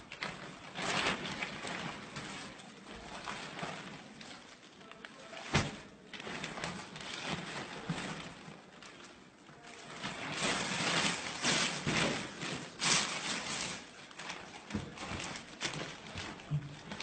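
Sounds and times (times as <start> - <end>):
plastic bags rustling: 0.0 - 17.0.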